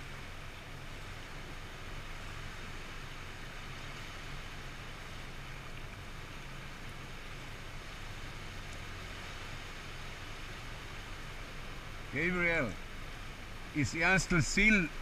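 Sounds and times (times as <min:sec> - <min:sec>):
outboard motor running slowly: 0:00.0 - 0:15.0
water hiss: 0:00.0 - 0:15.0
wind: 0:00.0 - 0:15.0.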